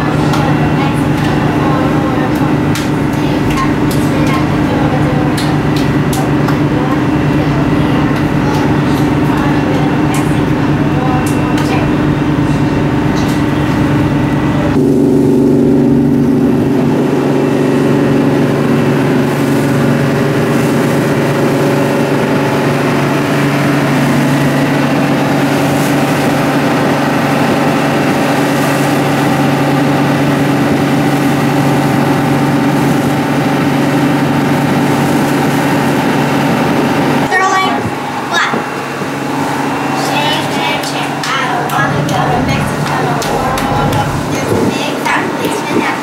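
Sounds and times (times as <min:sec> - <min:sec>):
boat engine humming: 0:00.0 - 0:46.0
water rushing: 0:00.0 - 0:46.0.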